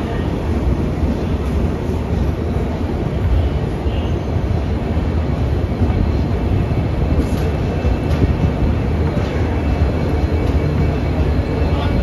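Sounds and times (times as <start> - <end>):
low rumble of train rolling: 0.0 - 12.0.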